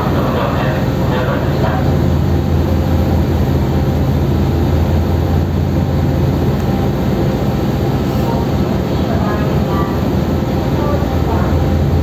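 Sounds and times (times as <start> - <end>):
hiss of wind and water: 0.0 - 12.0
ship engines droning: 0.0 - 12.0.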